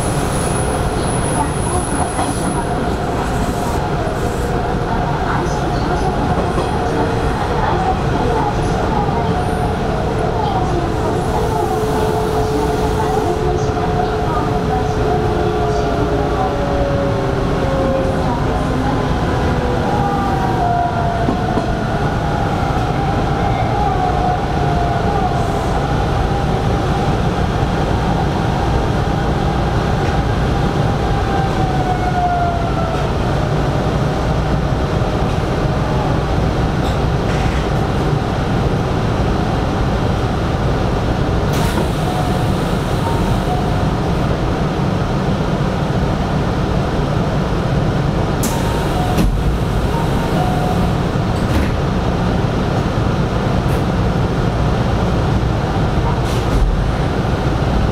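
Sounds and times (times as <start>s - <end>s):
electric train rumbling: 0.0s - 57.9s.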